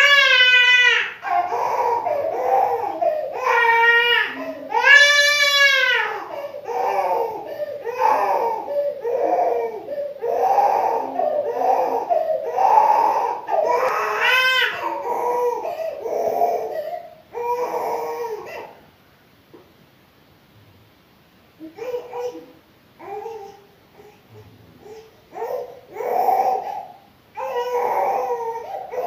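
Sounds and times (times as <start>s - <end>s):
toddler crying: 0.0s - 18.8s, 21.6s - 29.0s.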